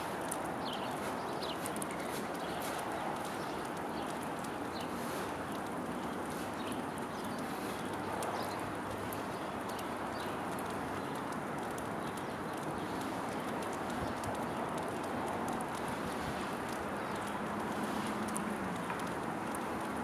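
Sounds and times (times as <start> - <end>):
squirrel cracking seeds: 0.1 - 20.0.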